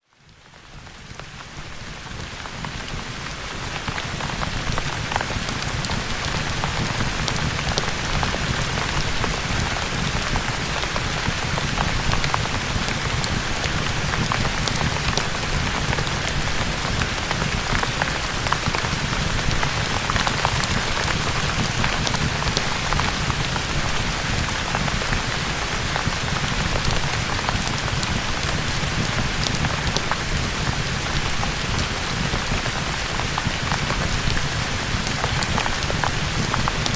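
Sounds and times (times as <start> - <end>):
dense rain: 0.0 - 36.9.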